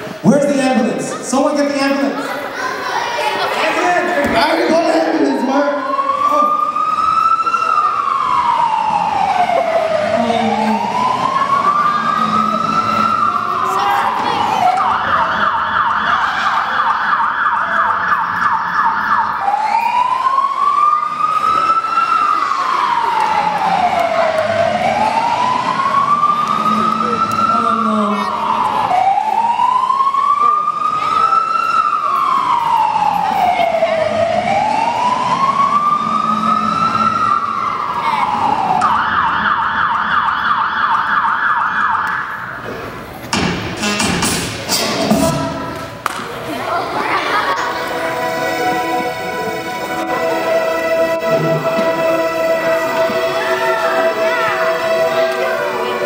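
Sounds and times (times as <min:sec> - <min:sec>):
emergency siren wailing and yelping: 0:04.6 - 0:42.6, 0:47.4 - 0:56.0.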